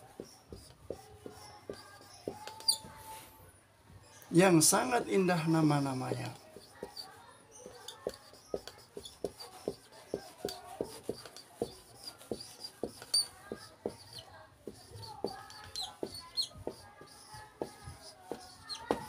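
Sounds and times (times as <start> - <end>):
marker squeaking on whiteboard: 0.0 - 3.2, 4.0 - 19.0.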